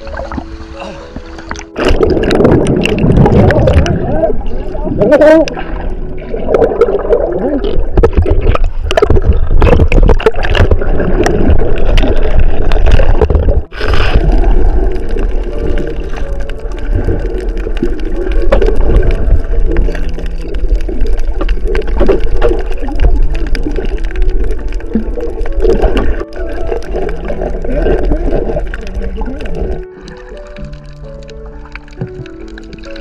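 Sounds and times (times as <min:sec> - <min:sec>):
water gurgling and sloshing: 0:00.0 - 0:33.0.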